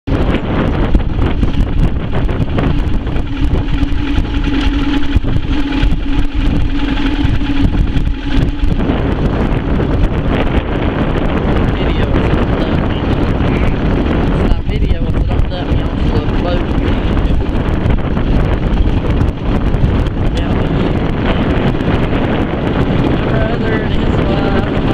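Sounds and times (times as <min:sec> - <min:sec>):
small boat motor running: 0:00.0 - 0:24.9
wind noise on microphone: 0:00.0 - 0:24.9.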